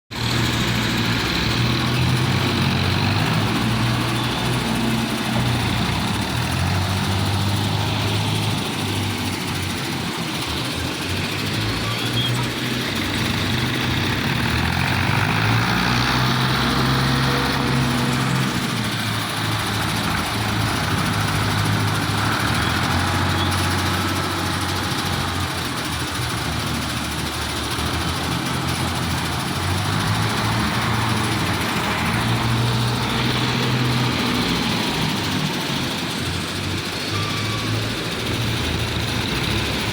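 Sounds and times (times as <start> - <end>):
tractor engine running: 0.1 - 39.9.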